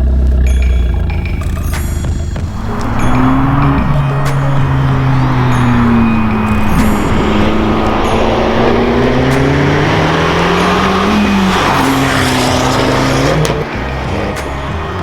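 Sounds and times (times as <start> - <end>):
car engine revving: 1.1 - 15.0.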